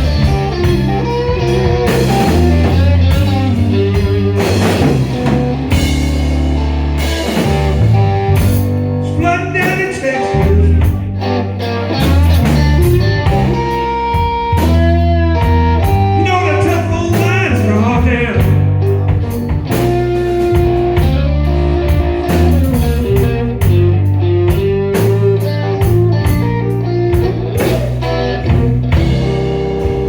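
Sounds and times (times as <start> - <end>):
bass guitar: 0.0 - 30.0
drum kit: 0.0 - 30.0
electric guitar lead: 0.0 - 30.0.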